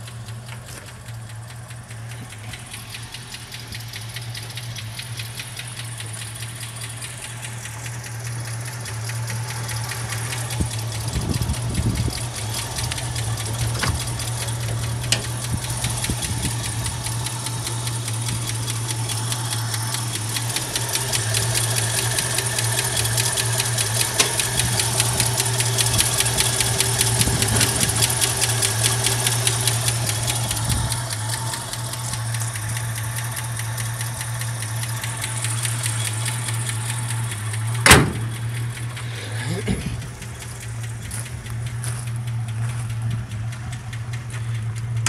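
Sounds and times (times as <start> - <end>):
car engine idling: 0.0 - 45.0
rapid even engine knocking: 0.0 - 45.0.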